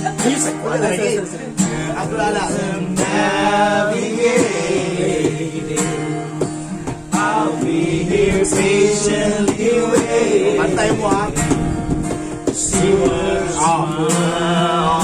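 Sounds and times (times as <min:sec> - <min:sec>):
acoustic guitar strumming: 0:00.0 - 0:15.0
men singing together: 0:00.9 - 0:15.0.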